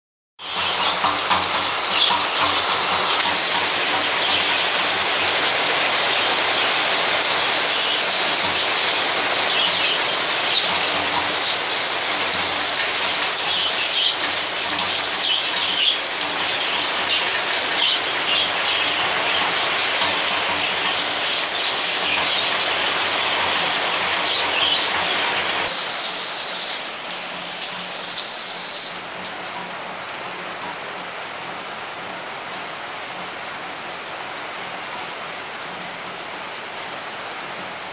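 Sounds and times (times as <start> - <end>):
heavy rain pouring: 0.4 - 37.9.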